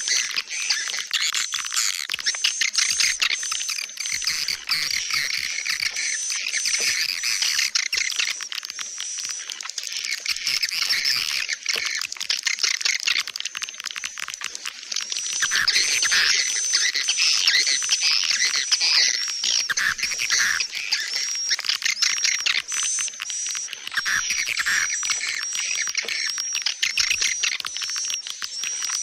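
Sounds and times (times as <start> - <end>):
swiftlets twittering: 0.0 - 29.0.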